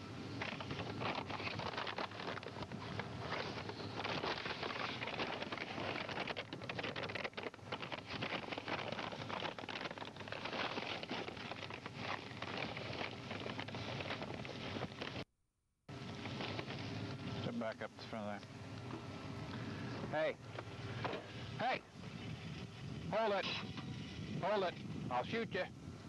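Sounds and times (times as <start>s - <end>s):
wireless microphone crackling: 0.1s - 15.3s, 15.9s - 26.0s.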